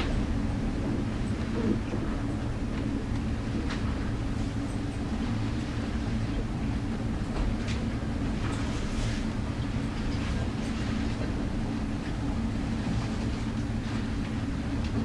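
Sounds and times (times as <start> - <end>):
ship engine deep drone: 0.0 - 15.0.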